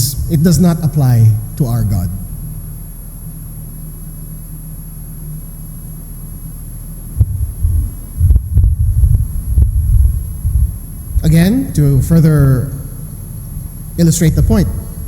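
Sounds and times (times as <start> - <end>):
loud irregular low thumps: 0.0 - 4.1, 6.4 - 15.0
steady low hum: 0.0 - 15.0.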